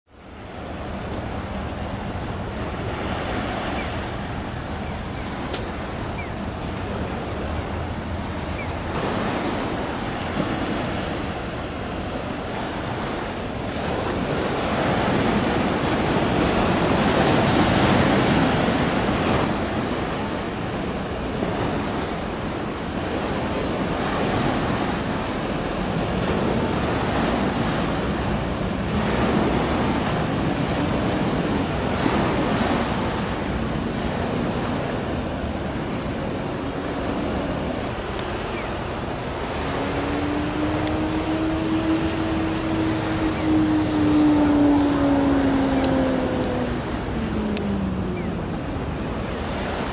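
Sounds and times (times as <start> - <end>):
waves washing: 0.1 - 49.9
wind blowing across microphone: 0.1 - 49.9.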